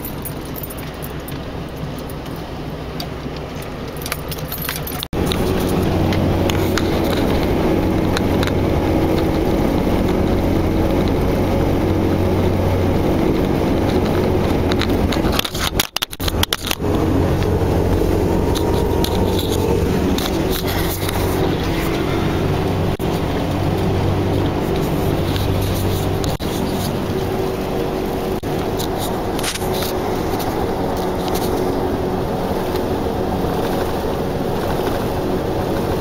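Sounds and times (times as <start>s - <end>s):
light rattles and clicks: 0.0s - 27.3s, 28.3s - 36.0s
engine and tyre noise inside car: 0.0s - 36.0s.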